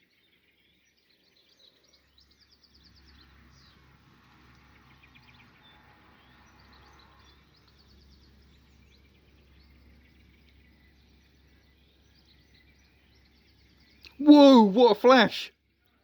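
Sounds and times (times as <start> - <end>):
faint bird chirps: 0.0 - 3.8, 4.8 - 16.0.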